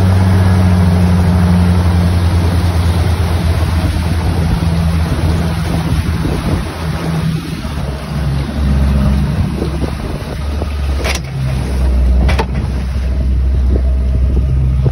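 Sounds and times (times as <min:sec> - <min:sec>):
boat engine drone: 0:00.0 - 0:14.9
water rushing: 0:00.0 - 0:14.9
wind buffeting microphone: 0:01.8 - 0:14.9.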